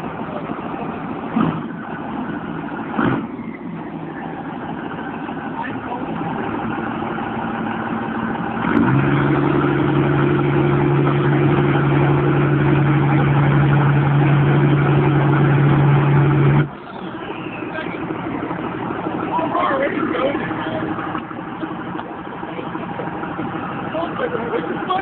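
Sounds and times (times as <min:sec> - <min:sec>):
diesel engine revving: 0:00.0 - 0:25.0.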